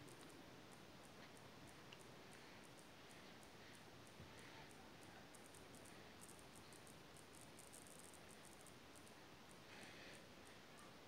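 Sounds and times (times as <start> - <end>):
faint high-pitched ticks: 0.0 - 11.0.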